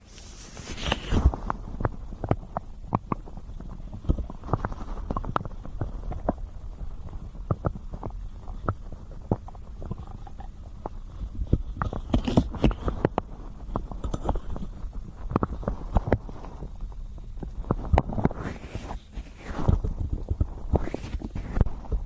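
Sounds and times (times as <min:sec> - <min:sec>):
stomach gurgling and growling: 0:00.0 - 0:22.0.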